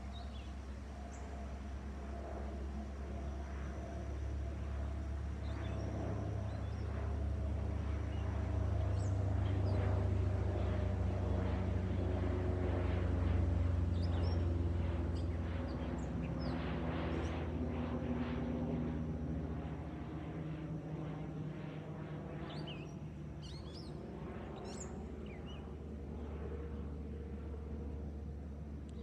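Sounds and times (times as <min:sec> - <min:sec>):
propeller plane droning overhead: 0:00.0 - 0:29.0.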